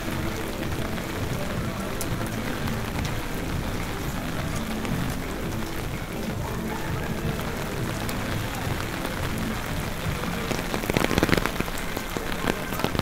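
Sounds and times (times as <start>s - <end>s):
sharp raindrop clicks: 0.0s - 13.0s
steady rain falling: 0.0s - 13.0s.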